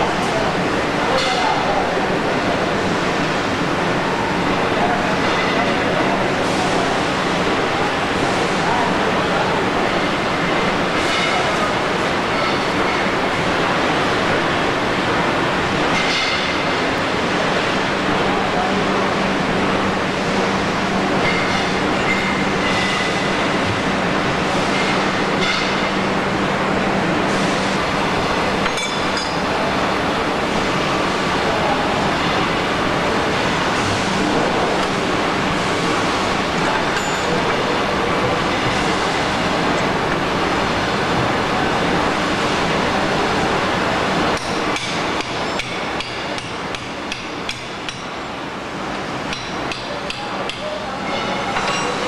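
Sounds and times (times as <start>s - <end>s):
roll forming machine running: 0.0s - 52.0s.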